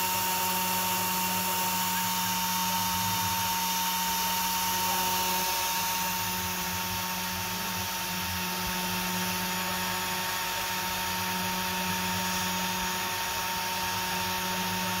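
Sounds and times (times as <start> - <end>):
cutter milling circuit board: 0.0 - 15.0
machine spindle high whine: 0.0 - 15.0.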